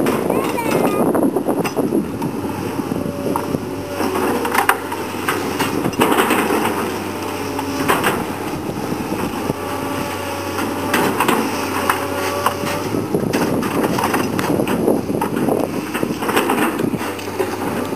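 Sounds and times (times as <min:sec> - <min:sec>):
excavator diesel engine: 0:00.0 - 0:17.9.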